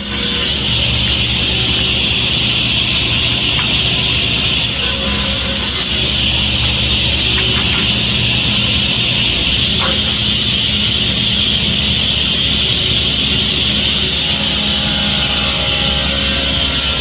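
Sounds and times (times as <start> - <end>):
power tool whirring: 0.0 - 17.0.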